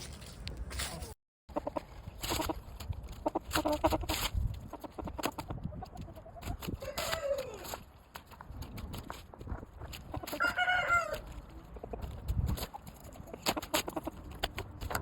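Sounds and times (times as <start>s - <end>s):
chickens clucking: 1.0s - 15.0s.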